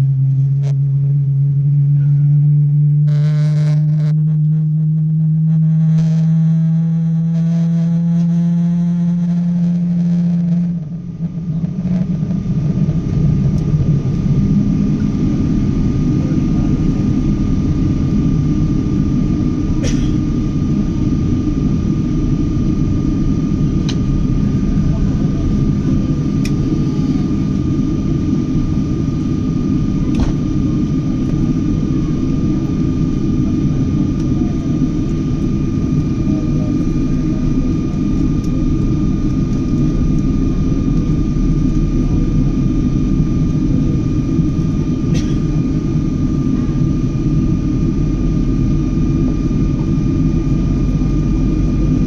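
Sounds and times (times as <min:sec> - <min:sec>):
jet engine rumble and whine: 0:00.0 - 0:52.0.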